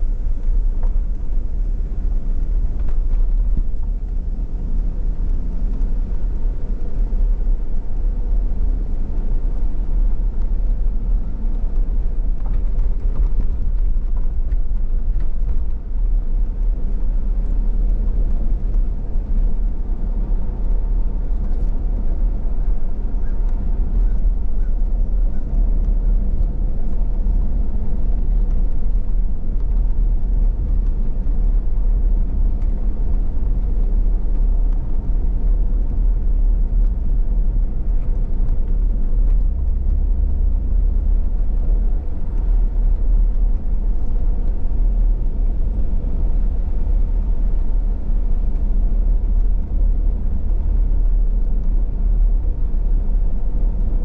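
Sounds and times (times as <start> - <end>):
vehicle engine and tyre rumble: 0.0 - 54.0.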